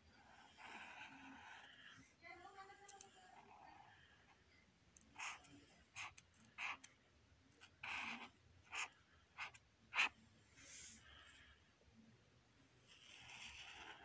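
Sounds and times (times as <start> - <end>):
marker pen drawing on paper: 0.0 - 4.4, 5.0 - 11.2, 12.8 - 14.0.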